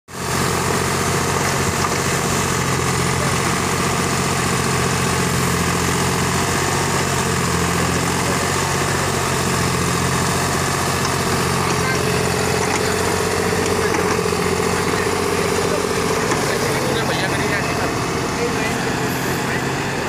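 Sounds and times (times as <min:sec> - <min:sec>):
tractor diesel engine running: 0:00.1 - 0:20.0
backhoe digging soil: 0:00.2 - 0:20.0.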